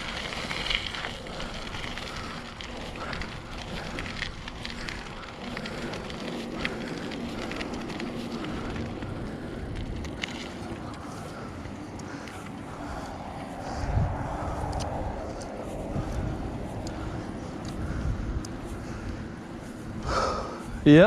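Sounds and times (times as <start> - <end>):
small clicks and rattles: 0.0 - 19.8
bicycle tyre and road noise: 0.0 - 21.0.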